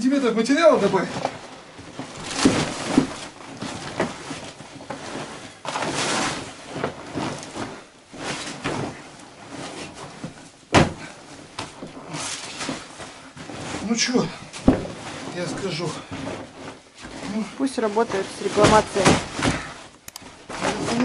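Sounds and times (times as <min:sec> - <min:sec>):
rustling of inflatable boat: 0:00.0 - 0:21.0.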